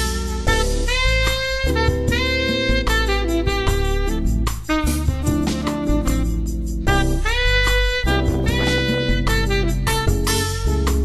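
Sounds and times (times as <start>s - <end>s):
instrumental jazz music: 0.0s - 11.0s
saxophone melody: 0.0s - 11.0s.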